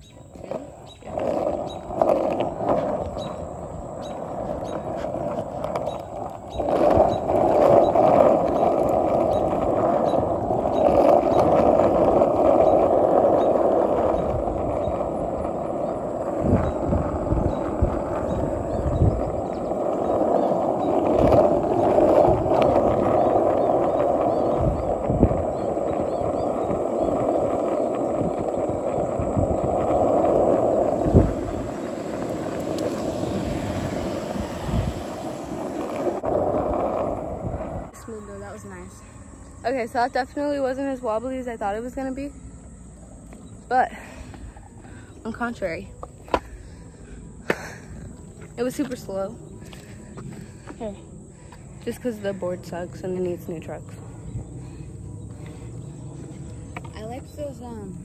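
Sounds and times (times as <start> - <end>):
skateboard wheels rolling on asphalt: 0.0 - 58.0.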